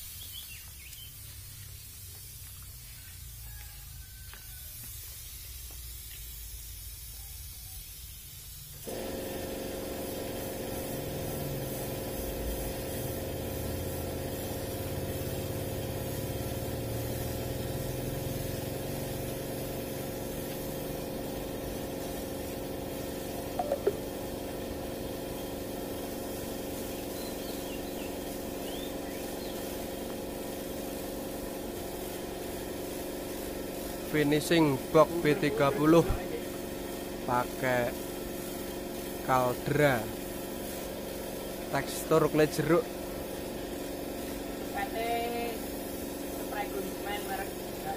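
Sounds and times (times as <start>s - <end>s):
spray gun hissing: 0.0s - 47.9s
air compressor humming: 8.4s - 47.9s.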